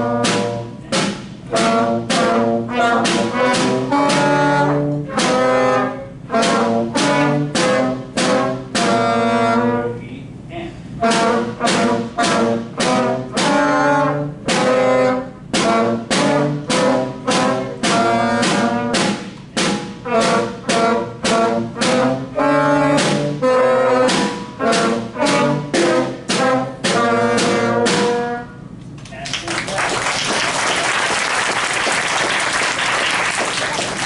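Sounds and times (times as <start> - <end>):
school wind band playing: 0.0 - 10.1, 10.9 - 28.8, 30.0 - 34.0.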